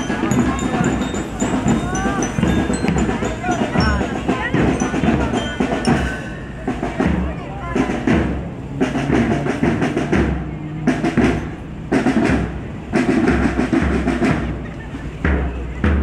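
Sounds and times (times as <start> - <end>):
melodicas: 0.0 - 16.0
snare and bass drums marching: 0.0 - 16.0.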